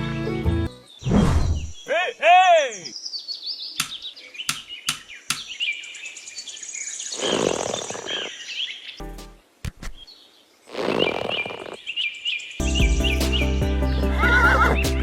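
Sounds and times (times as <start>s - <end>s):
birds chirping: 0.7s - 15.0s.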